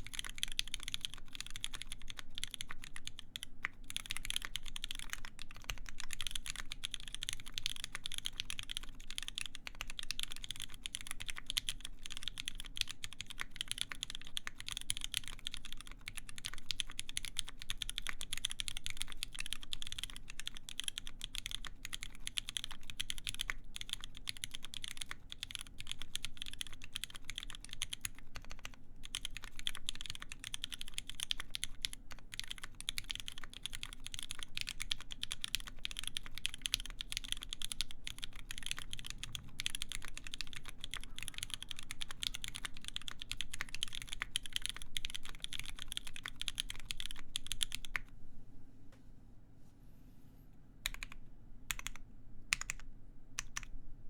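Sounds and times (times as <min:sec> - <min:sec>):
fast mechanical keyboard typing: 0:00.0 - 0:48.1, 0:50.9 - 0:53.7.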